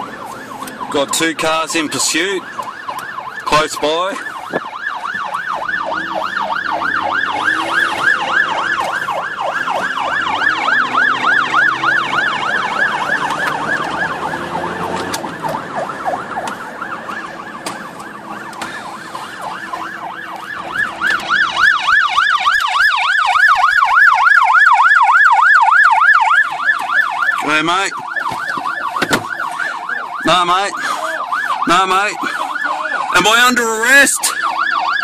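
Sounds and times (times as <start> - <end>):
car engine hum: 0.0 - 34.9
police siren yelping: 0.0 - 35.0.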